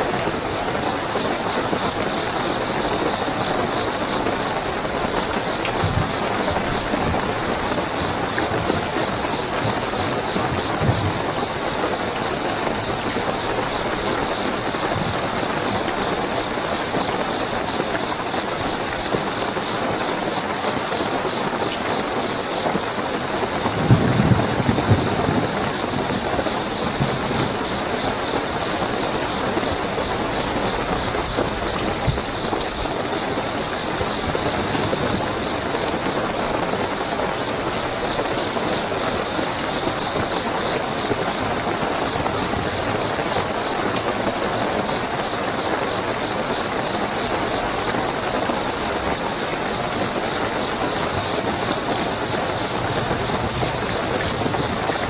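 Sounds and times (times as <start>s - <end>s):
cricket trill: 0.0s - 55.0s
heavy rainfall: 0.0s - 55.0s.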